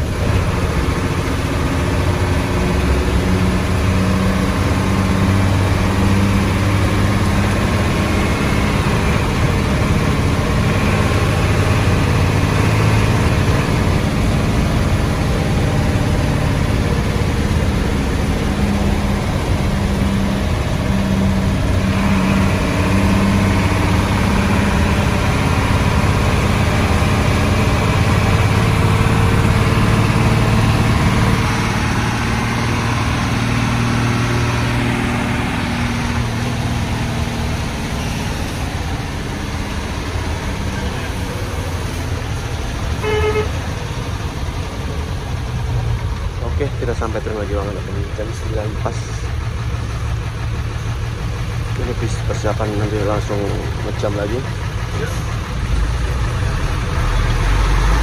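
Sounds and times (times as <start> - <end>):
diesel bus engine humming: 0.0 - 58.0.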